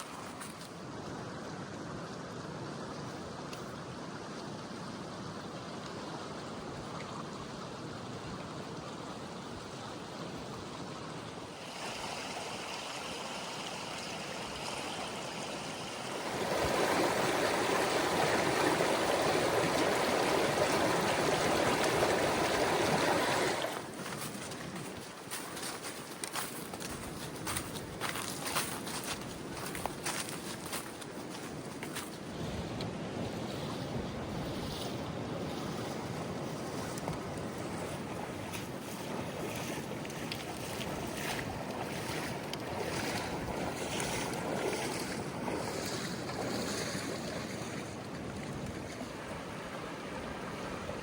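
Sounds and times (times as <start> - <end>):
creek water rushing: 0.0 - 51.0.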